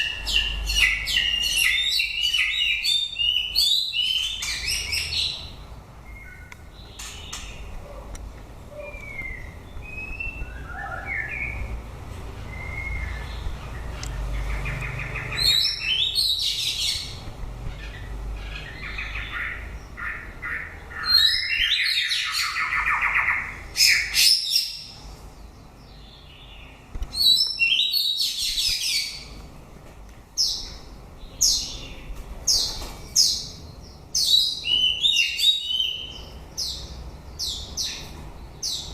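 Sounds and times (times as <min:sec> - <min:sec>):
bird singing: 0:00.0 - 0:08.1, 0:08.7 - 0:11.8, 0:12.4 - 0:29.4, 0:30.4 - 0:38.9.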